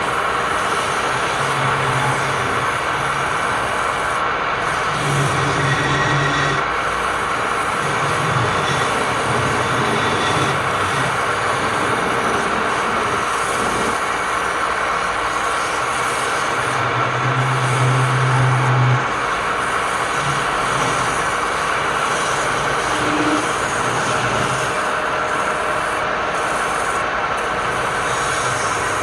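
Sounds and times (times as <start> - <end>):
tool working spinning wood: 0.0 - 29.0
wood lathe running: 0.0 - 29.0.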